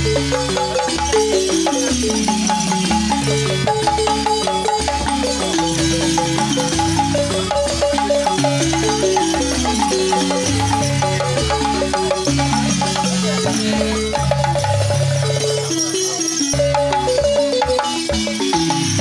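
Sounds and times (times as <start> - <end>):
balafons played with mallets: 0.0 - 19.0.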